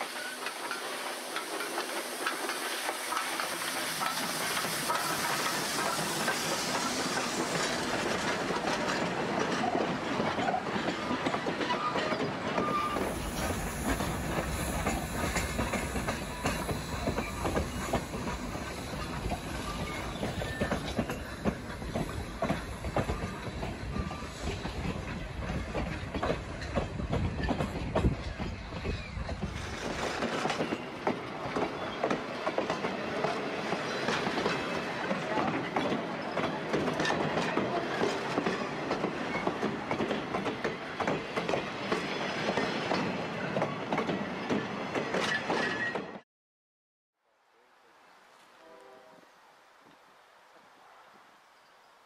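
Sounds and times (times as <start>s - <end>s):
train rumble: 0.0s - 46.2s
train wheels clacking over rails: 0.0s - 46.2s.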